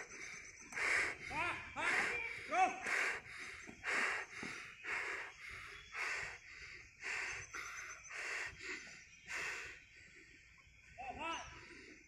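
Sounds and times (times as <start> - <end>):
person breathing heavily: 0.0 - 10.3.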